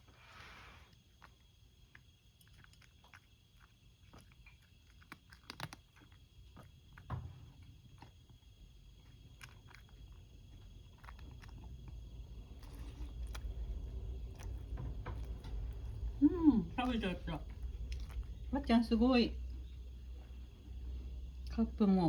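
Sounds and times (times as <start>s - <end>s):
cat crunching dry kibble: 0.9s - 19.5s.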